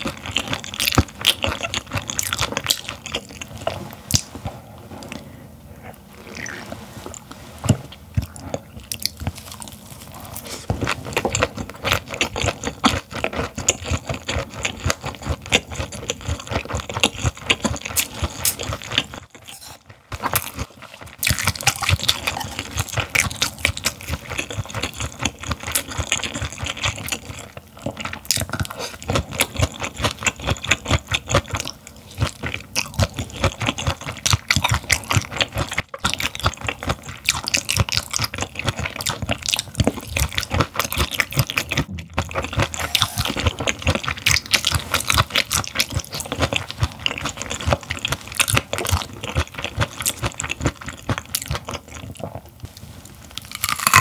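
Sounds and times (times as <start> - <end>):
wet crunchy chewing: 0.0 - 5.3, 5.9 - 54.0.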